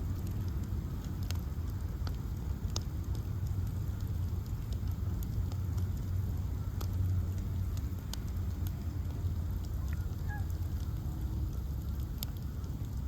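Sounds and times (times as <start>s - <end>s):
bonfire rumble: 0.0s - 13.0s
wood crackling and popping: 0.0s - 13.0s.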